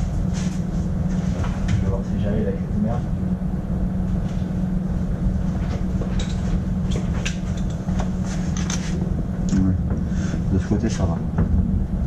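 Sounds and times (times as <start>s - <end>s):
workshop machinery drone: 0.0s - 12.0s.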